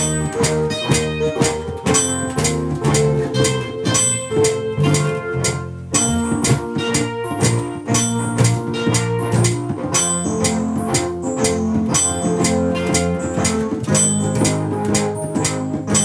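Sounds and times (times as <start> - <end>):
organ-like keyboard chords: 0.0 - 16.0
steady drum beat: 0.0 - 16.0.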